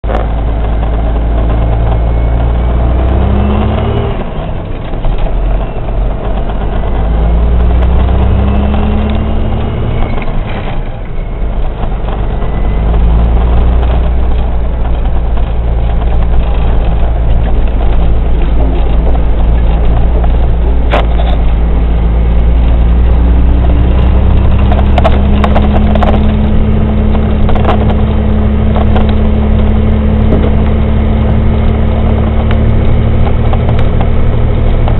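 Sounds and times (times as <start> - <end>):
diesel truck engine shifting gears: 0.0 - 34.9.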